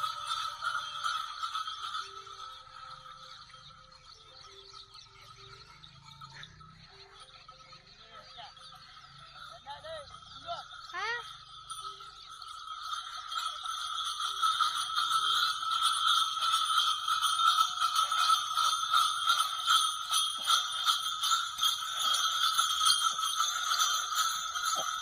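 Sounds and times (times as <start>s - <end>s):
small bells jingling: 0.0s - 25.0s.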